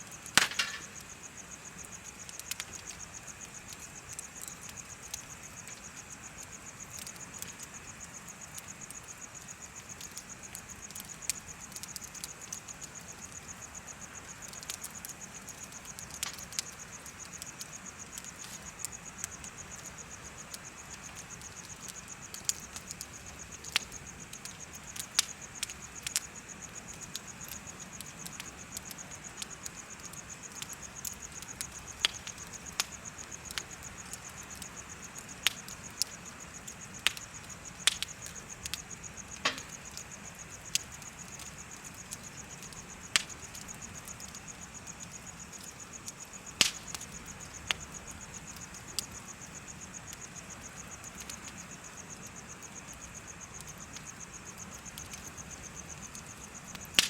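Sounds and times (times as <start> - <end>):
bonfire crackling and popping: 0.0 - 57.0
insects chirping: 0.0 - 57.0.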